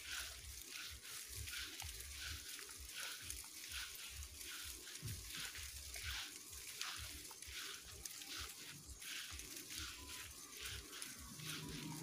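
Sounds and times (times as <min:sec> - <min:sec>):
footsteps on grass: 0:00.0 - 0:12.0.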